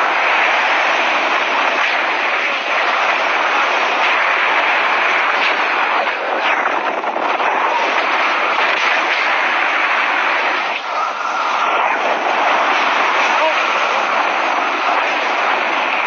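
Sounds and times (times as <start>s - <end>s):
faint crackles: 0.0s - 16.0s
wind rushing over microphone: 0.0s - 16.0s.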